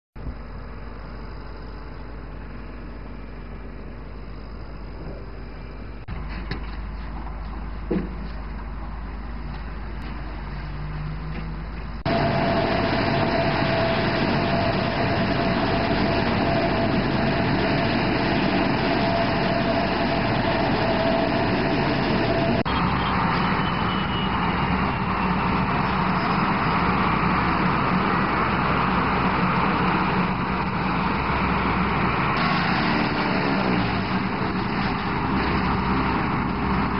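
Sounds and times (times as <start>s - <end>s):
thin steady whine: 0.2s - 7.8s, 12.0s - 36.9s
loud engine noise: 0.2s - 36.9s.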